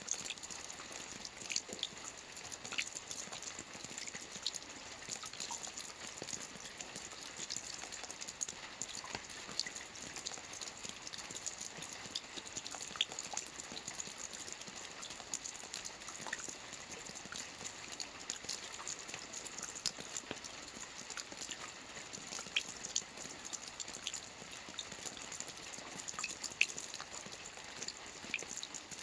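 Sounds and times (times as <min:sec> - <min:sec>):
soft rain on a roof: 0:00.0 - 0:29.0.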